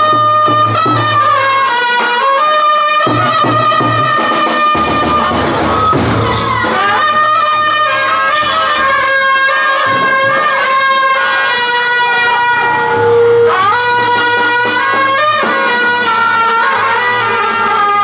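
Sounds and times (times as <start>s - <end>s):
drums: 0.0s - 18.0s
trumpets playing melody: 0.0s - 18.0s.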